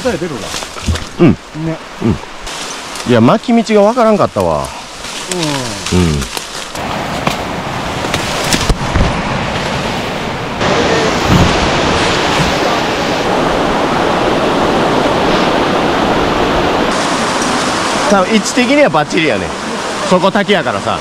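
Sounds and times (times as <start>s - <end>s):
rushing stream and waterfall: 0.0s - 21.0s.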